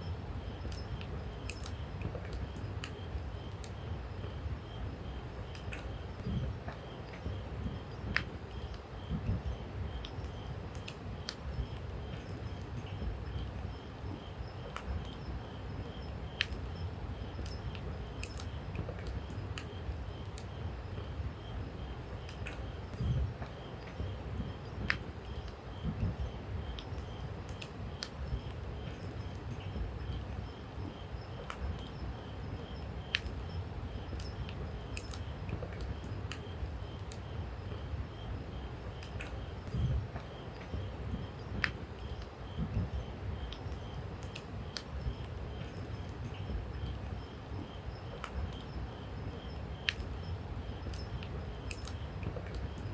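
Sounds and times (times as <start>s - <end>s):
steady low rumble: 0.0s - 52.9s.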